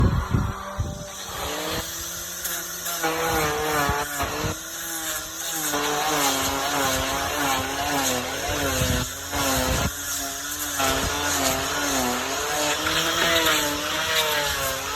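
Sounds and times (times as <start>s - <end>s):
power tool motor running: 0.0s - 14.9s.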